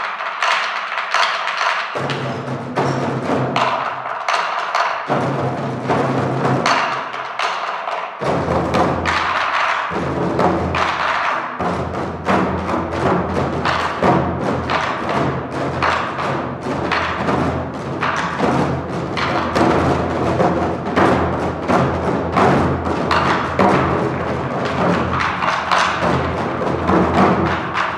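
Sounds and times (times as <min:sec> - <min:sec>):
barrel drums beaten: 0:00.0 - 0:27.9.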